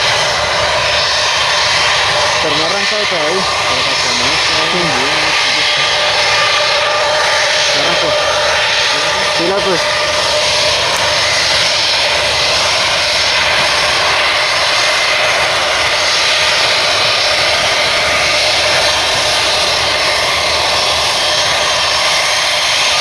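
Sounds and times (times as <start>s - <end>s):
jet engines at takeoff thrust: 0.0s - 23.0s.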